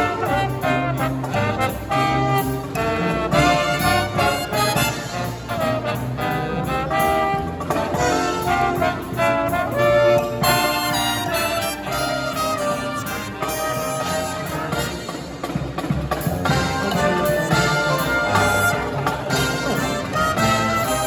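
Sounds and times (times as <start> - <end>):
brass band accompaniment: 0.0 - 21.0
trumpets and trombones playing melody: 0.0 - 21.0.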